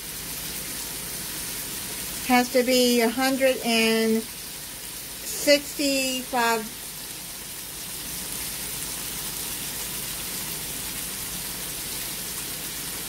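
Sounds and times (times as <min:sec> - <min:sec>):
chicken sizzling on electric grill: 0:00.0 - 0:13.0.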